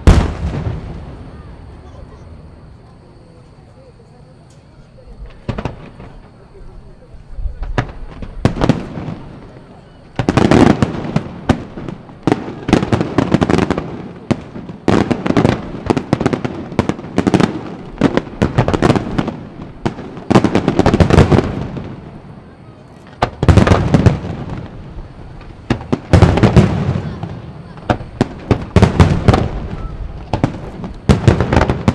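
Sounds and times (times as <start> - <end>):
fireworks bursting: 0.0 - 4.1, 5.0 - 31.9.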